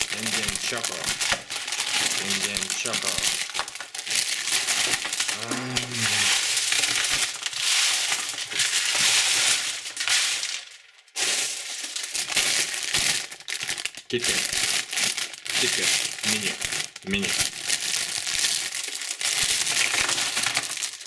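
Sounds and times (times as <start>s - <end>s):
plastic candy wrappers crinkling: 0.0s - 21.0s.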